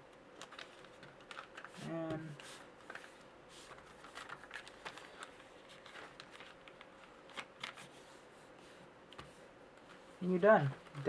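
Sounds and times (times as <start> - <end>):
paper being folded and creased: 0.4 - 9.4.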